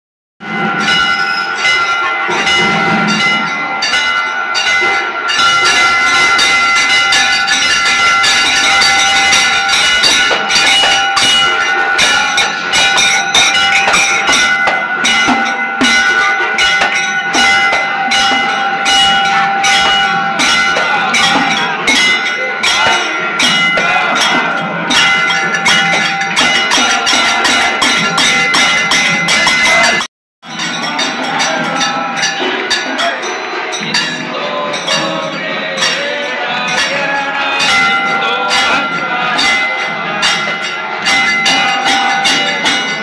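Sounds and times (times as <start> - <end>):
temple bells ringing: 0.4 - 43.0.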